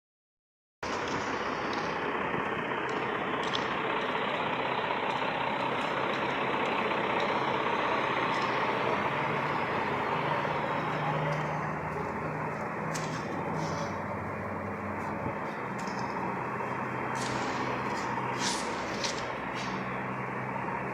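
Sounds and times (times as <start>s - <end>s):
truck engine running: 0.8s - 20.9s.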